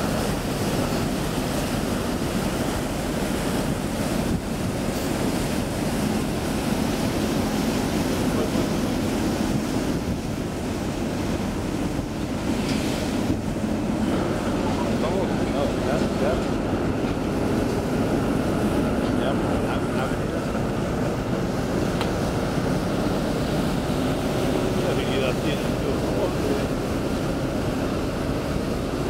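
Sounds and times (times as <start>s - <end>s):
rushing churned sea water: 0.0s - 29.0s
wind buffeting microphone: 0.0s - 29.0s.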